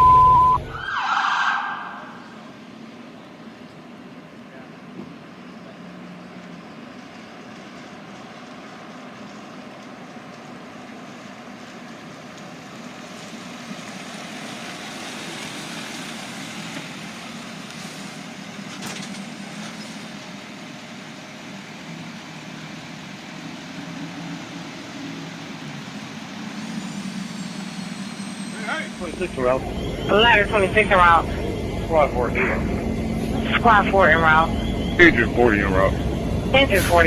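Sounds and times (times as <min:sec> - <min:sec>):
fire truck engine running: 0:00.0 - 0:37.0
road and traffic noise: 0:00.0 - 0:37.0.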